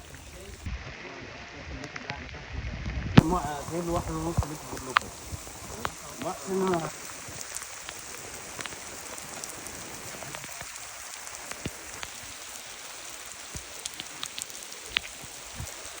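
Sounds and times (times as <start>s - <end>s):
sharp raindrop ticks: 0.0s - 0.7s, 1.8s - 16.0s
heavy rain hissing: 0.0s - 16.0s.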